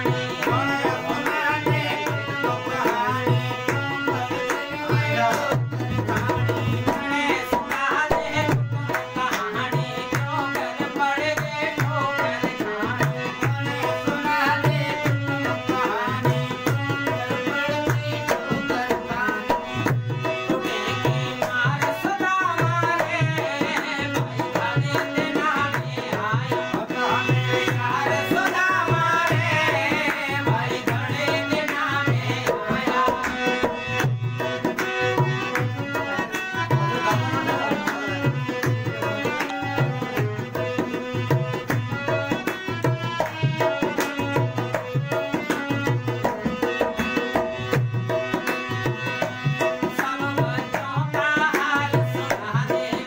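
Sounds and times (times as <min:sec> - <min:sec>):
man singing: 0:00.0 - 0:47.0, 0:48.4 - 0:53.0
harmonium: 0:00.0 - 0:53.0.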